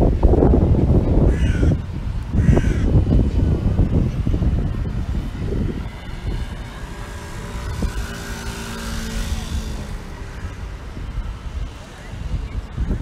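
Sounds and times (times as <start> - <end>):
engine hum: 0.0 - 13.0
wind buffeting microphone: 0.0 - 13.0.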